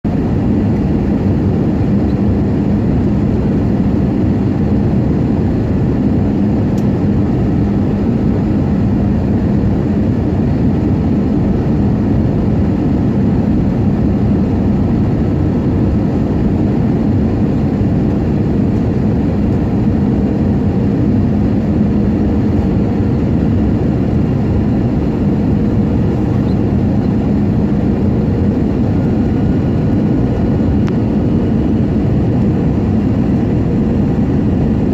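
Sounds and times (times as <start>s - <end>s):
airflow rushing over fuselage: 0.1s - 34.9s
jet engines humming: 0.1s - 34.9s.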